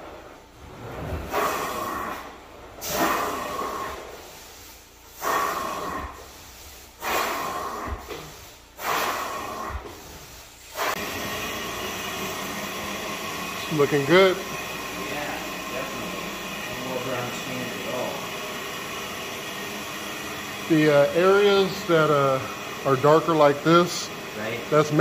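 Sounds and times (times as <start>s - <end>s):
rug extractor hissing strokes: 1.3s - 25.0s.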